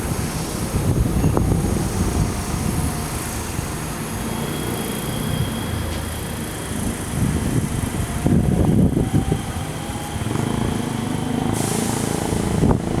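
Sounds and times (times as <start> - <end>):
rush of wind: 0.0 - 13.0
train wheels rumbling over rails: 0.0 - 13.0.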